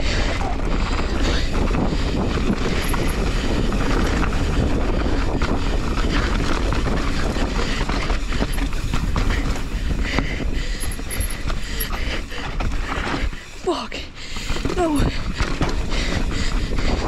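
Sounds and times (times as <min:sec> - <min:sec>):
bike rattling over bumps: 0:00.0 - 0:17.0
tyre and wind rumble: 0:00.0 - 0:17.0.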